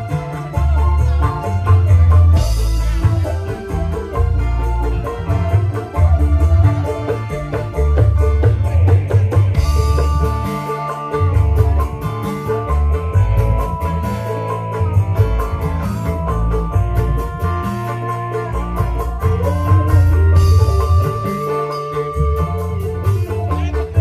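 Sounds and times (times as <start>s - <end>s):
drum kit and hand drums: 0.0s - 24.0s
electric guitars: 0.0s - 24.0s
heavy bass line: 0.0s - 24.0s.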